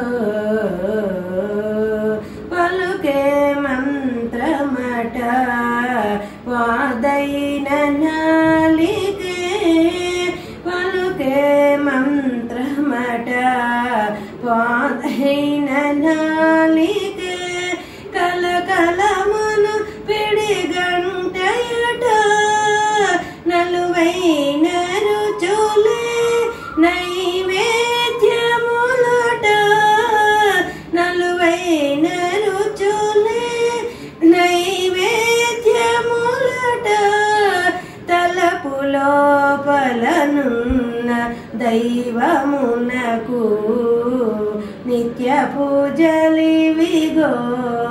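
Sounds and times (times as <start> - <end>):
woman singing solo: 0.0 - 47.9.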